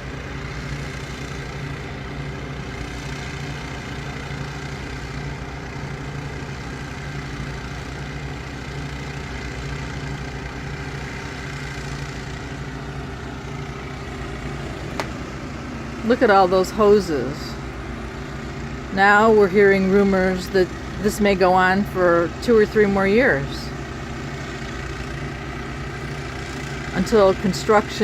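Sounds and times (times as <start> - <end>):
engine pumps droning: 0.0 - 28.0.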